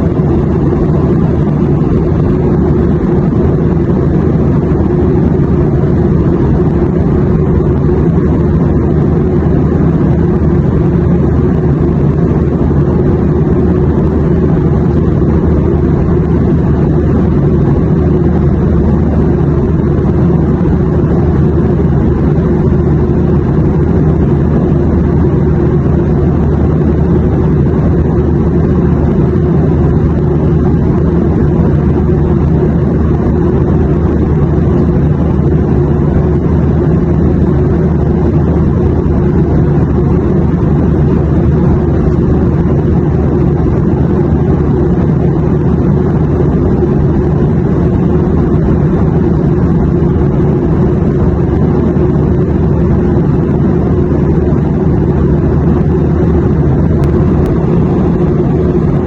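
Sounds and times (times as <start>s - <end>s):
airplane drone: 0.0s - 59.0s.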